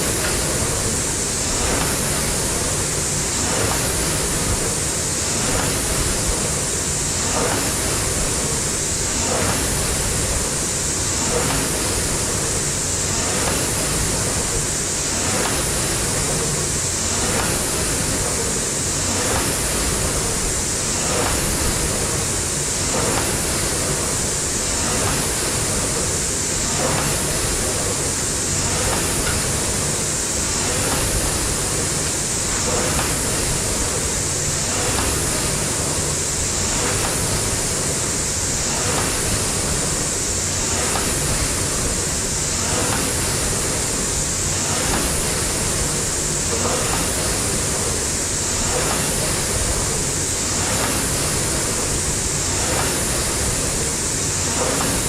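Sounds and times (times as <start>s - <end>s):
rowing machine flywheel rushing: 0.0s - 55.0s.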